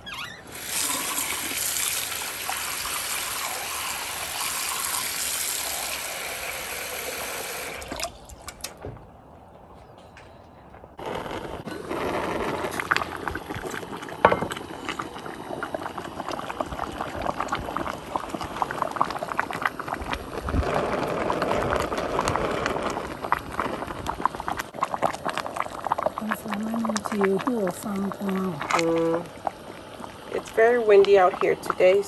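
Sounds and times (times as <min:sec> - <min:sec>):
stew bubbling in a pot: 0:00.4 - 0:08.6, 0:11.0 - 0:32.0.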